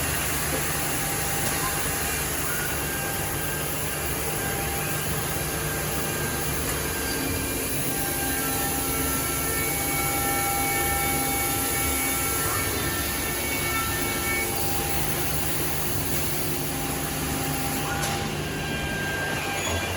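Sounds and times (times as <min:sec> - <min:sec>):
machine mechanical hum: 0:00.0 - 0:19.9.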